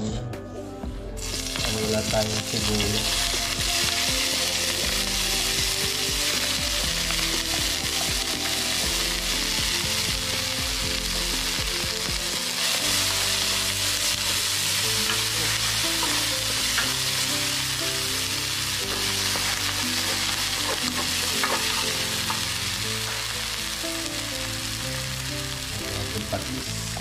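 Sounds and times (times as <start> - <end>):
oil sizzling in a pan: 1.2 - 27.0.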